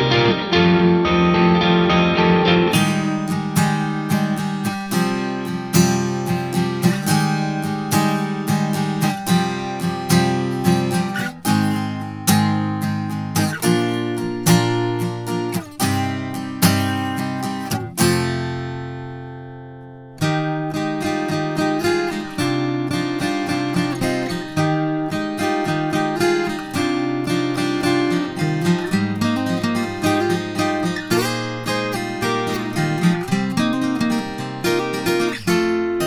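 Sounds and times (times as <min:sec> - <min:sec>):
acoustic guitar strumming chords: 0:00.0 - 0:36.0.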